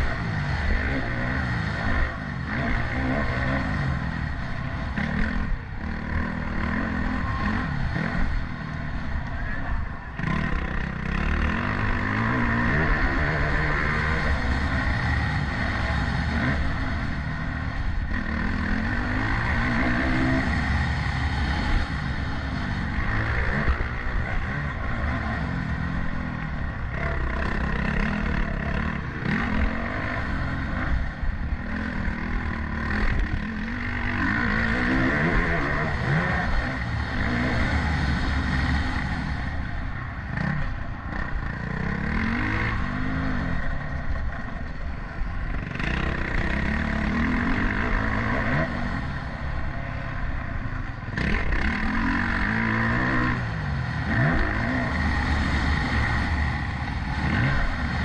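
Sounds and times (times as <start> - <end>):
continuous rushing noise: 0.0 - 58.0
motorbike engine revving: 0.0 - 58.0.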